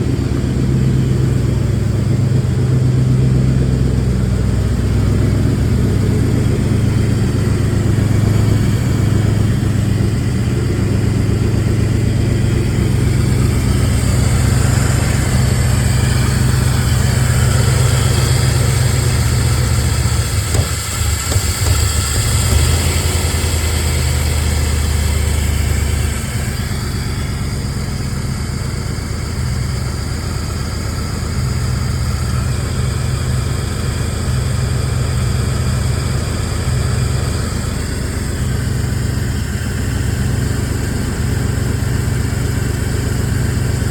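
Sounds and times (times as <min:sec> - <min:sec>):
car engine idling roughly: 0:00.0 - 0:43.9.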